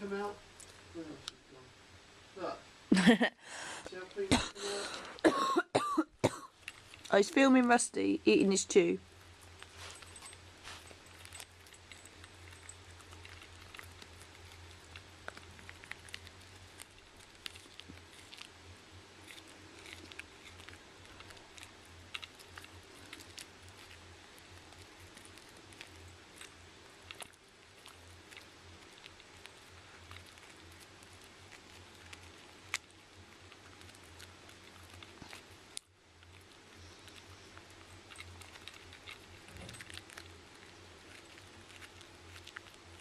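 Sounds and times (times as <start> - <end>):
steady low hum: 0.0 - 43.0
dog gnawing on a chew: 6.5 - 7.8, 8.4 - 43.0.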